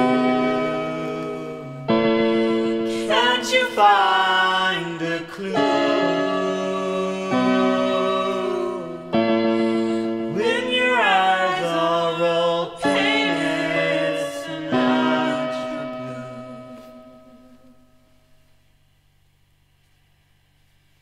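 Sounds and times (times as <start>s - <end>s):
person singing long gliding notes: 0.0s - 17.9s
synthesizer keyboard chords: 0.0s - 17.9s.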